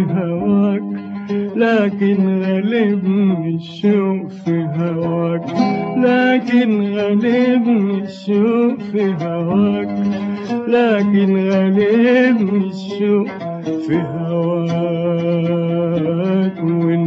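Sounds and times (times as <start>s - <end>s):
man singing with vibrato: 0.0s - 17.0s
plucked oud: 0.0s - 17.0s.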